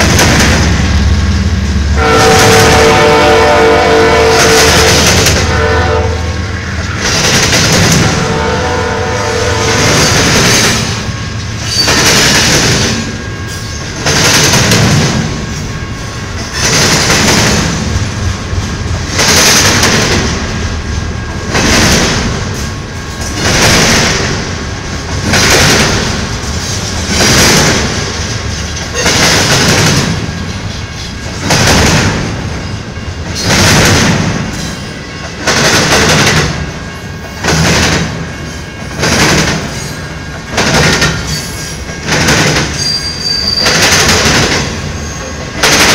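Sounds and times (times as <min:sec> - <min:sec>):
freight train rolling past: 0:00.0 - 0:45.9
train wheels clattering: 0:00.0 - 0:45.9.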